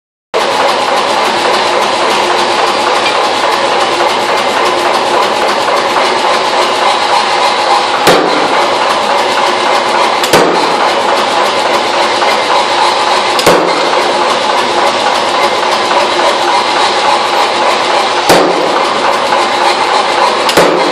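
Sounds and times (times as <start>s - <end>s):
power hammer machine noise: 0.4s - 20.9s.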